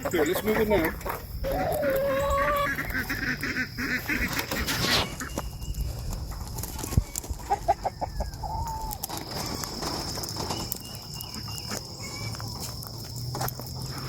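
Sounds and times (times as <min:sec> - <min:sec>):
poultry calling: 0:00.0 - 0:05.6, 0:06.6 - 0:12.7.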